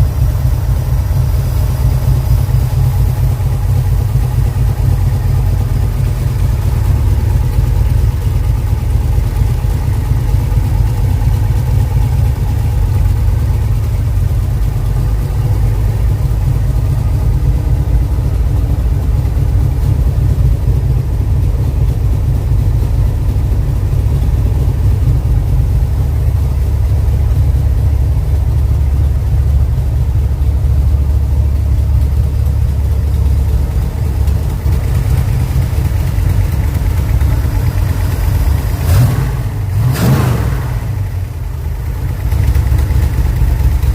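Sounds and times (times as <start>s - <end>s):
vehicle engine idling: 0.0s - 43.9s.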